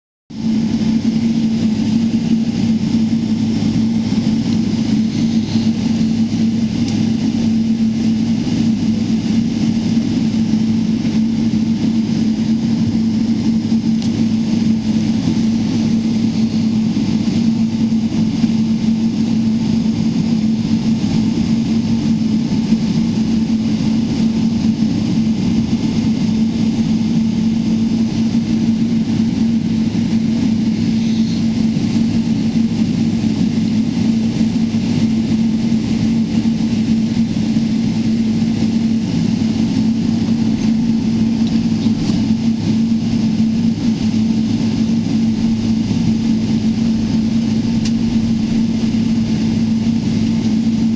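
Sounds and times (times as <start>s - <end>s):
airplane cabin drone: 0.3s - 50.9s.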